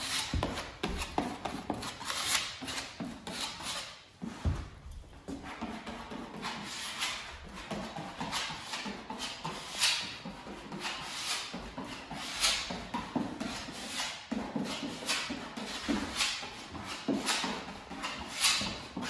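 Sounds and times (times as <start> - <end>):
putty knife scraping: 0.0 - 4.6, 5.3 - 19.0.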